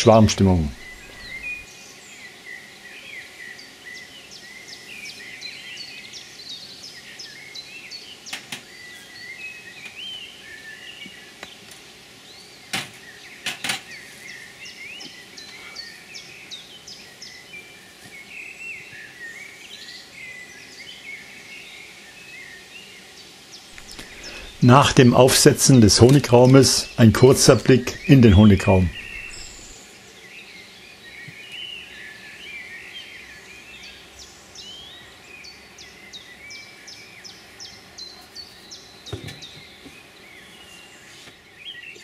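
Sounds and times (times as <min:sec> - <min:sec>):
songbirds singing and chirping: 0:00.0 - 0:42.0.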